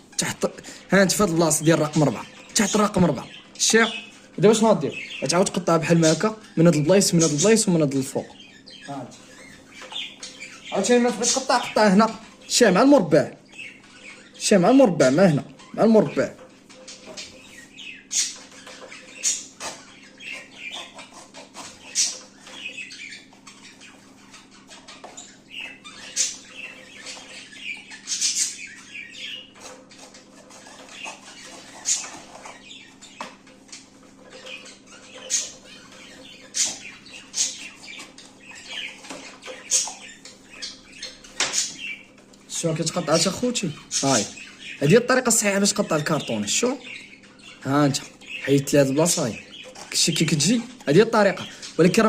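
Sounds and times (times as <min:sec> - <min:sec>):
finches calling: 0:00.0 - 0:52.0.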